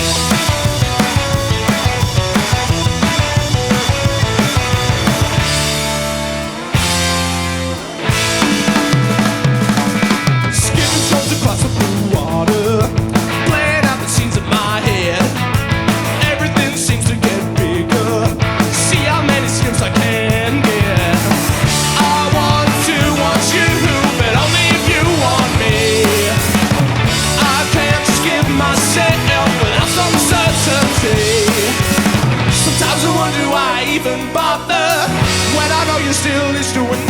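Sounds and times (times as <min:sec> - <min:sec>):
drum kit steady beat: 0:00.0 - 0:37.0
rock band playing live: 0:00.0 - 0:37.0.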